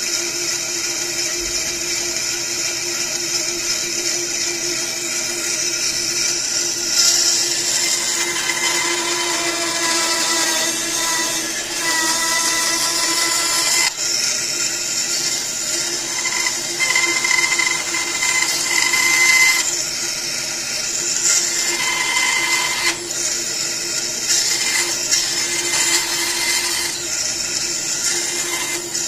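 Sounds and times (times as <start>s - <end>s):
bandsaw cutting wood: 0.0s - 29.0s
bandsaw motor hum: 0.0s - 29.0s.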